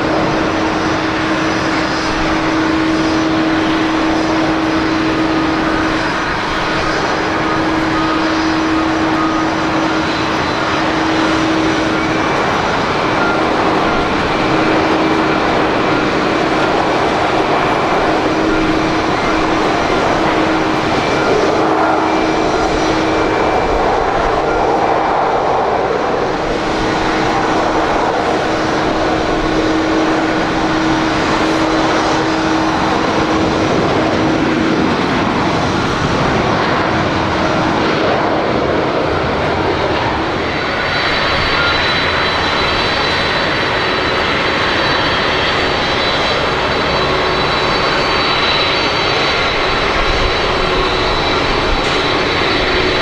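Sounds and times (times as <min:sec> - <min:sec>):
high whining tones: 0:00.0 - 0:53.0
jet engines running: 0:00.0 - 0:53.0
steady hum: 0:00.0 - 0:53.0.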